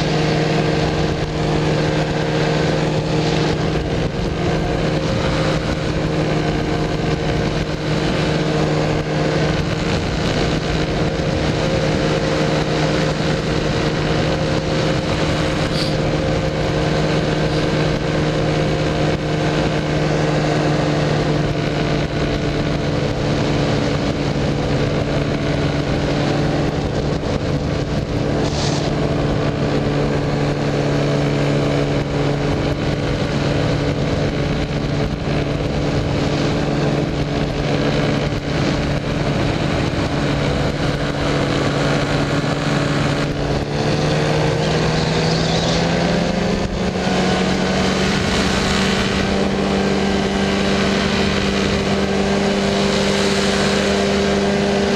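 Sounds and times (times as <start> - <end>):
powered parachute engine drone: 0.0 - 54.9.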